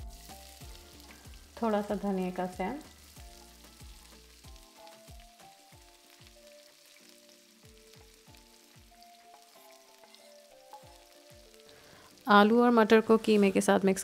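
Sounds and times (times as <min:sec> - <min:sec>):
food sizzling in a pot: 0:00.0 - 0:14.0
soft background music: 0:00.0 - 0:14.0.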